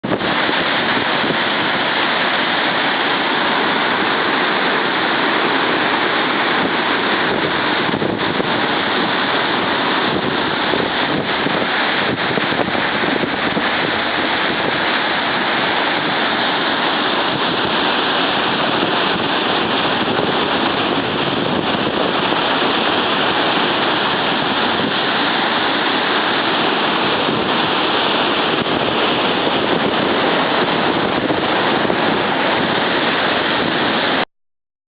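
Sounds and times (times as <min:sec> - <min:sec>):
waterfall roaring: 0:00.0 - 0:34.2
wind on microphone: 0:00.0 - 0:34.2.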